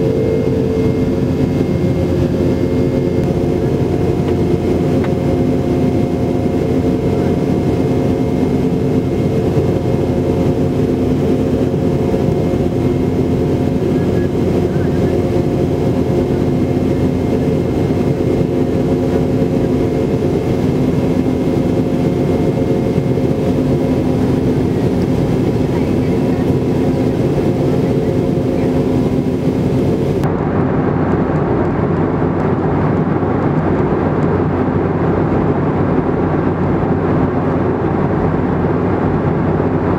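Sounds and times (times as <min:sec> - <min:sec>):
jet engine drone: 0:00.0 - 0:39.9
steady hum tones: 0:00.0 - 0:39.9.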